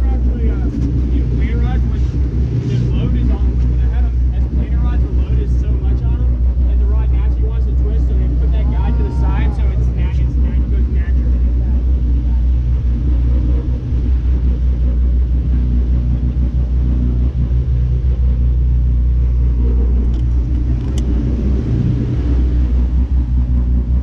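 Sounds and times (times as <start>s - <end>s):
boat engine drone: 0.0s - 24.0s
water rushing: 0.0s - 24.0s
wind: 0.0s - 24.0s.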